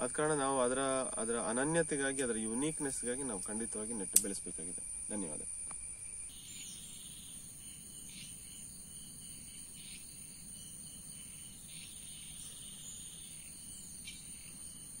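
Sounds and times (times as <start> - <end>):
insects chirping: 0.0 - 15.0
insects trilling: 0.0 - 15.0.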